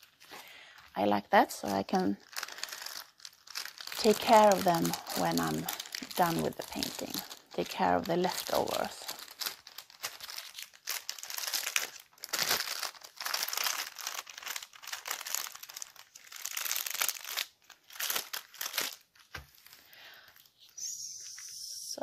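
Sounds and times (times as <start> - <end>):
plastic film crinkling: 0.0 - 21.5.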